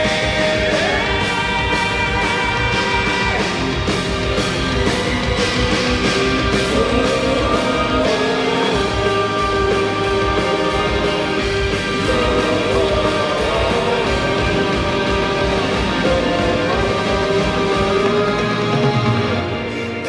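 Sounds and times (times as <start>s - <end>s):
rock band playing instrumental: 0.0s - 20.0s.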